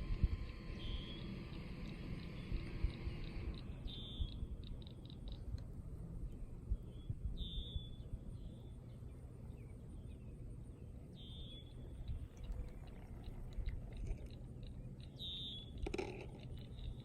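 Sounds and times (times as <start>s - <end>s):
steady low rumble: 0.0s - 15.2s.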